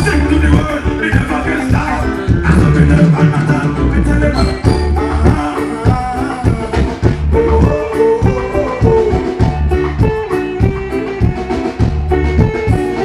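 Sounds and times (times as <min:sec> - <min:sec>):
bass guitar: 0:00.0 - 0:13.0
reggae guitar: 0:00.0 - 0:13.0
steady drum beat: 0:00.0 - 0:13.0.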